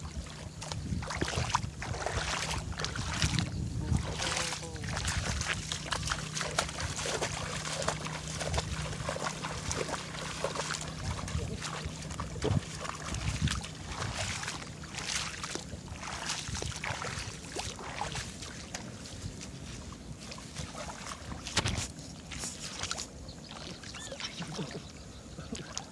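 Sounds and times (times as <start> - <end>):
water splashing and sloshing: 0.0 - 25.9.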